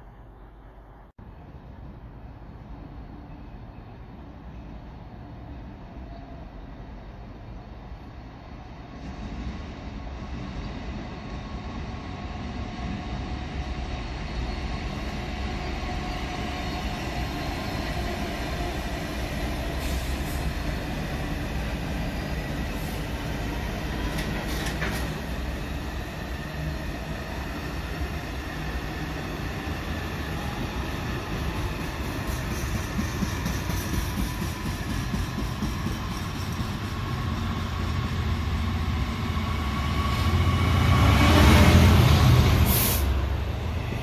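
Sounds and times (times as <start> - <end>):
freight train wheels rumbling: 8.6 - 44.0.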